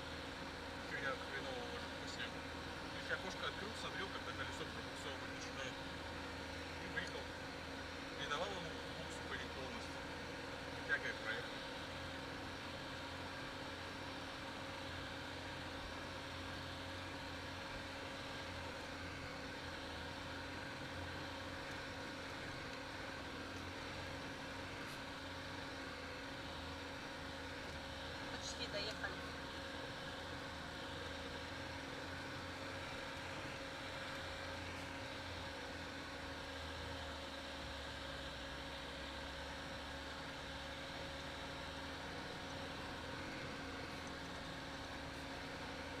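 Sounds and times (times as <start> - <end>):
car engine running: 0.0 - 46.0.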